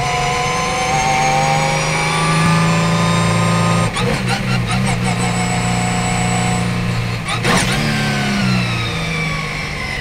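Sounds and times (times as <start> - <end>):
race car engine accelerating: 0.0 - 10.0.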